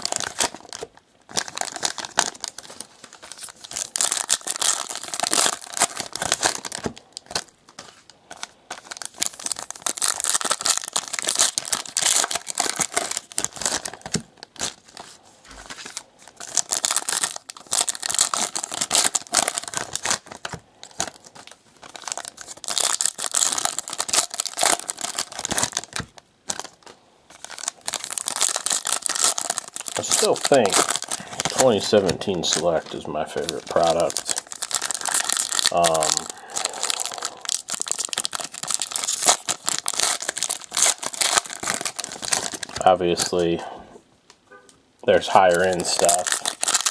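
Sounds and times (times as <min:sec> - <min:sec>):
foil wrappers tearing and crinkling: 0:00.0 - 0:43.5, 0:45.1 - 0:46.9.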